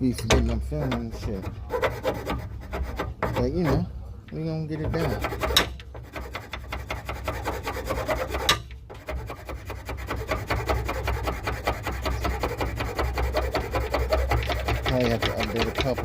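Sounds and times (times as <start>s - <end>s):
file scraping metal: 0.0s - 16.0s.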